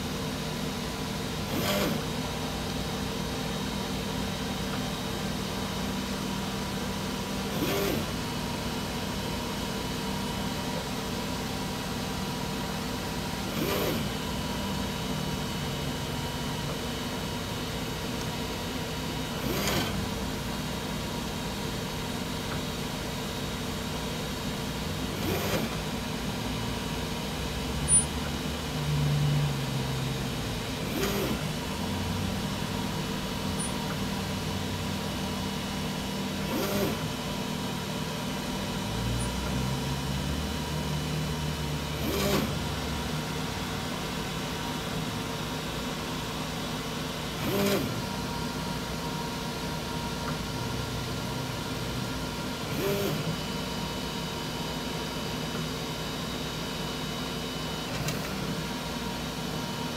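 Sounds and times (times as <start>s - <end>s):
stepper motor whine: 0.0s - 59.9s.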